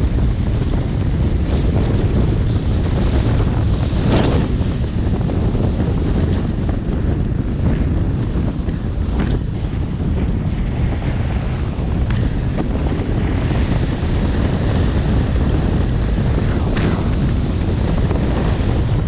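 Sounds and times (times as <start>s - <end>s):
snowboard edges carving snow: 0.0s - 19.0s
wind buffeting microphone: 0.0s - 19.0s.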